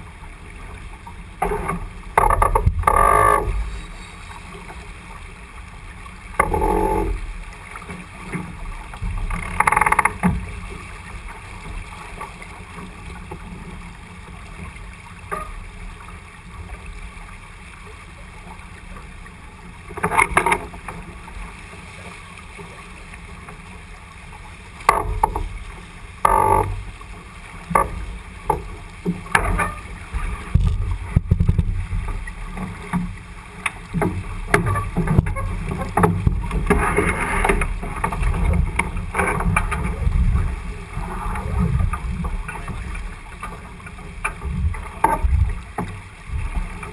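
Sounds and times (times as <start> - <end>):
wind and water rushing: 0.0 - 46.9.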